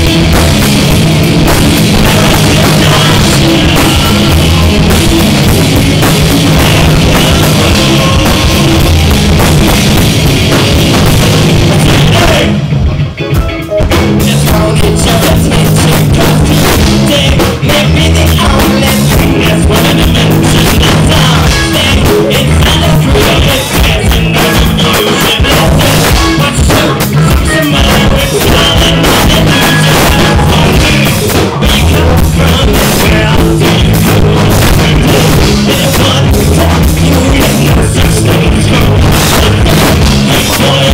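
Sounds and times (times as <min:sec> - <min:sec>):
bass guitar: 0:00.0 - 0:40.9
distorted electric guitars: 0:00.0 - 0:40.9
pounding drum kit: 0:00.0 - 0:40.9
person singing into a microphone: 0:01.4 - 0:09.8, 0:10.6 - 0:12.6, 0:13.9 - 0:40.9.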